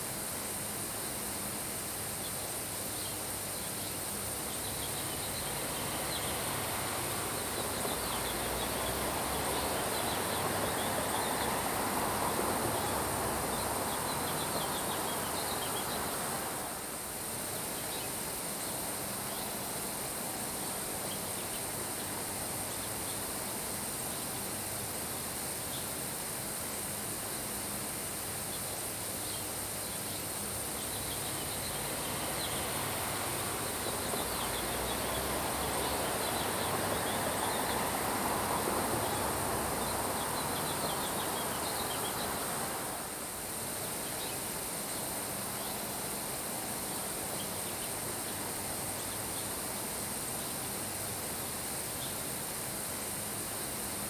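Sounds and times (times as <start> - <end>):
wind: 0.0 - 54.0
rain falling on grass: 4.0 - 27.2, 27.9 - 54.0.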